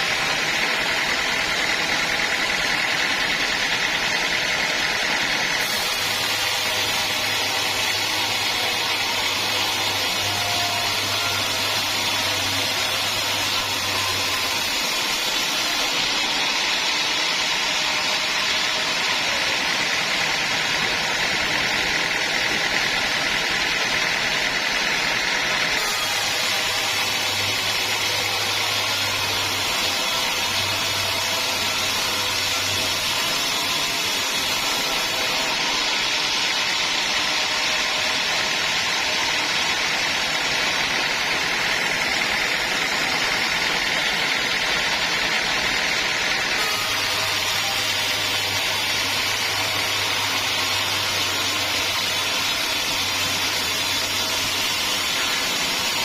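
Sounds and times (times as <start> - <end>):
band sawmill sawing a log: 0.0 - 56.0.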